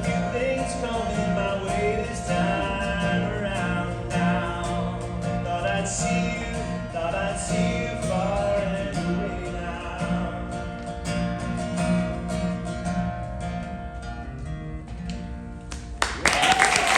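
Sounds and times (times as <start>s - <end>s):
acoustic guitar fingerpicking: 0.0s - 16.0s.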